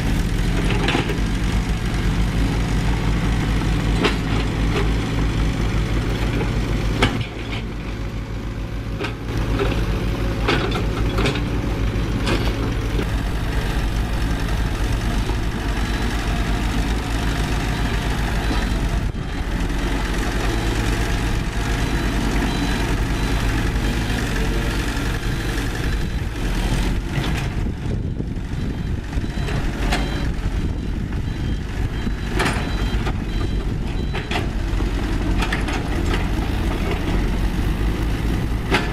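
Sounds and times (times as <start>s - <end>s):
diesel machinery engines running: 0.0s - 38.9s.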